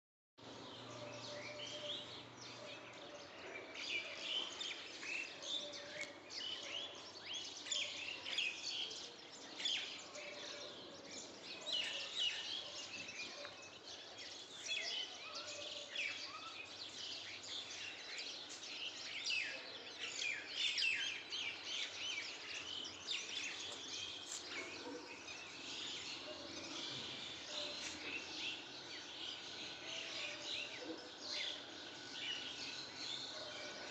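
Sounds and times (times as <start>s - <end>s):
small birds chirping: 0.4s - 33.9s.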